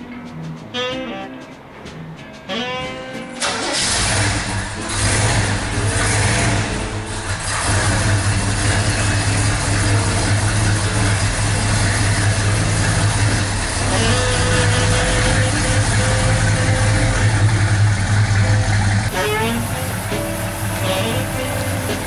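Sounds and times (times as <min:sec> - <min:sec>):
car engine idling: 0:03.4 - 0:22.0
high steady whine: 0:03.9 - 0:22.0.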